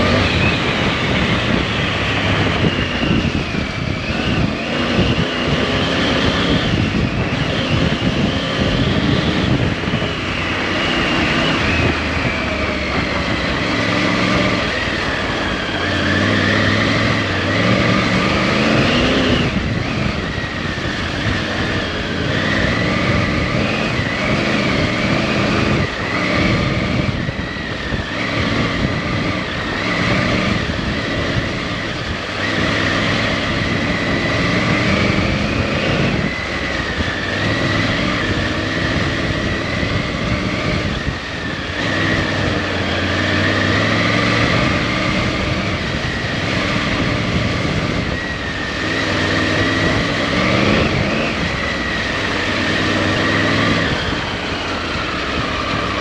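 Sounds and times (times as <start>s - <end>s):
motorcycle engine revving: 0.0s - 56.0s
steady rush of noise: 0.0s - 56.0s.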